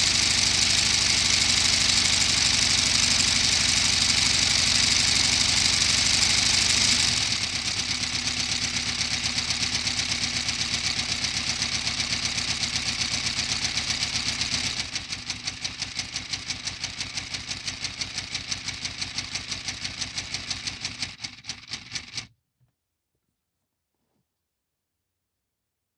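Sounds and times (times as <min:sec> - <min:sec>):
model engine clattering: 0:00.0 - 0:22.3.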